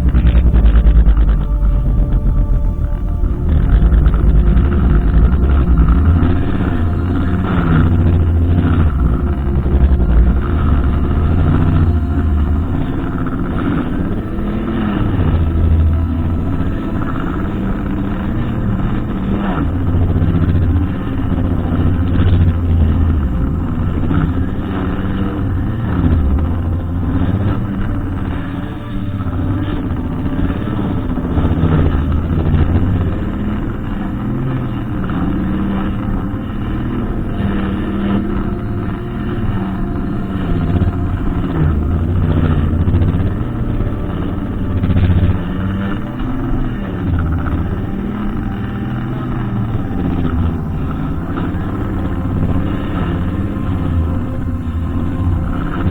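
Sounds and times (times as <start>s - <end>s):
brushcutter engine running: 0.0s - 55.9s.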